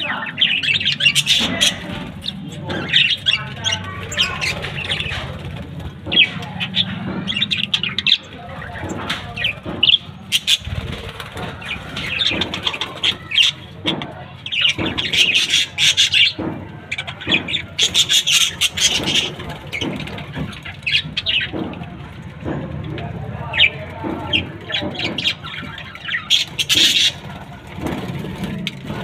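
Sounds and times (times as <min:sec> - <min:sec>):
budgerigars chirping: 0:00.0 - 0:21.8, 0:23.4 - 0:28.1.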